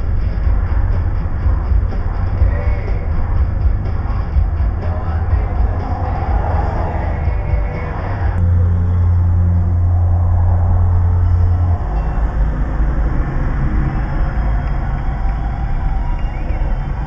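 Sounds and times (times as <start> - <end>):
car engine and road noise: 0.0 - 17.0
steady low hum: 0.0 - 17.0.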